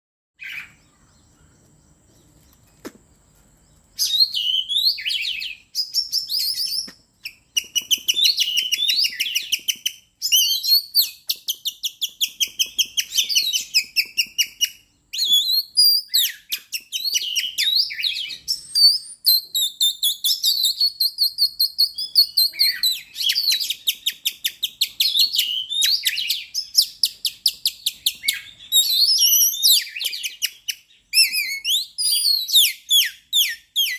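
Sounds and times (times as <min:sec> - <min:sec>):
bird singing whistled trills: 0:00.4 - 0:01.6, 0:04.0 - 0:33.9.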